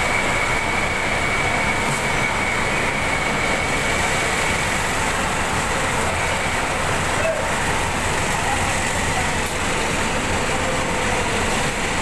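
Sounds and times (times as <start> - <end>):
conveyor machinery drone: 0.0 - 12.0.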